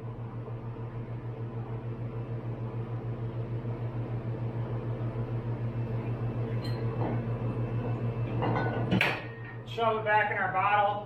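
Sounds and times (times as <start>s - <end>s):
pulsing low machine hum: 0.0s - 11.0s.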